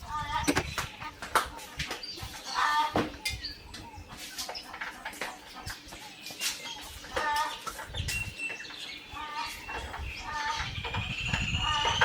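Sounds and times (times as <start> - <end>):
bird clucking calls: 0.0 - 12.0.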